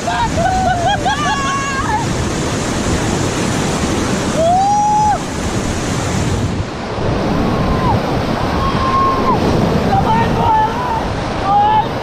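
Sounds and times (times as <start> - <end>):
white-water rapids rushing: 0.0 - 12.0
wind buffeting microphone: 0.0 - 12.0.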